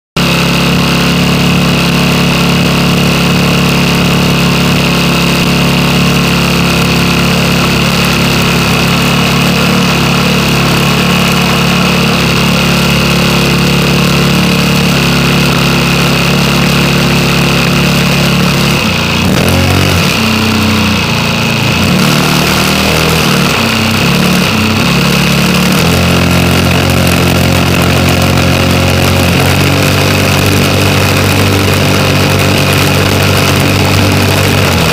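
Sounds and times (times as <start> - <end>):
model airplane engine running: 0.2 - 34.9.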